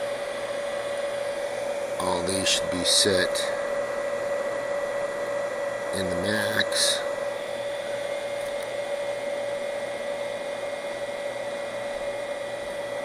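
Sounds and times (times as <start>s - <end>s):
cooling fan whirring: 0.0s - 13.0s
mid-pitched hum: 0.0s - 13.0s.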